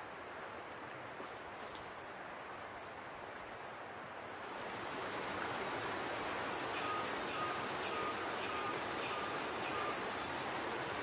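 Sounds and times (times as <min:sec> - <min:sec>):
forest stream rushing: 0:00.0 - 0:11.0.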